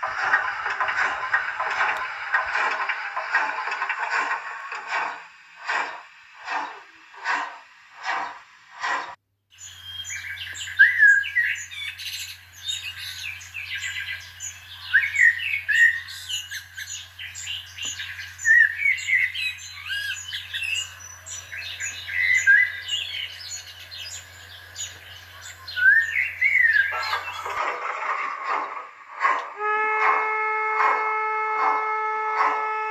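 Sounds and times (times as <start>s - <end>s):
birdsong sound effect: 0.0s - 29.7s
steady low hum: 0.0s - 32.9s.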